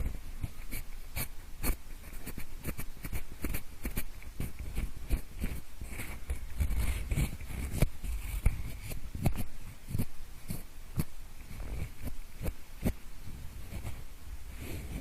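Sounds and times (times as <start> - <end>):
pencil scratching on microphone: 0.0 - 15.0.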